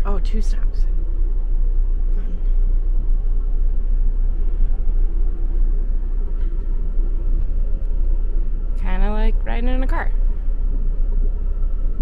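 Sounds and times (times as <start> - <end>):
faint hum: 0.0 - 12.0
train rumbling at speed: 0.0 - 12.0.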